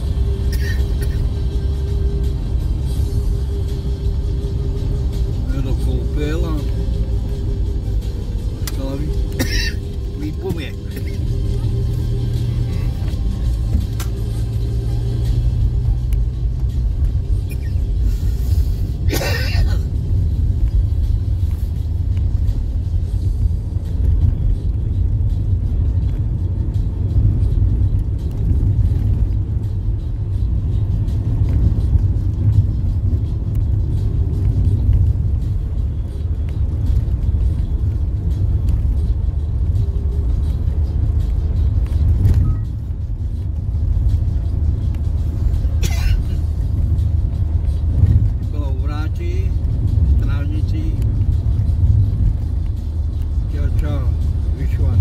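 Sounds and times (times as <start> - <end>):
car driving on rough road: 0.0 - 55.0.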